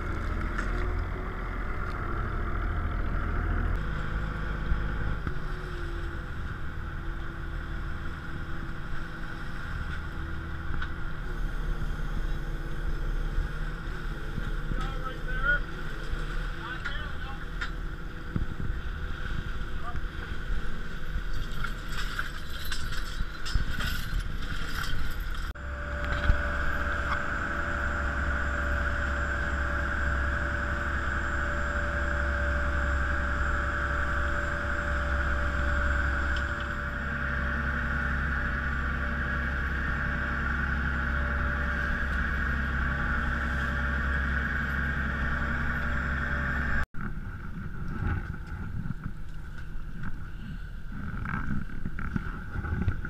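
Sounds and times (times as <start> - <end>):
boat motor humming and whining: 0.0 - 53.0
water: 0.0 - 53.0
wind: 0.0 - 53.0.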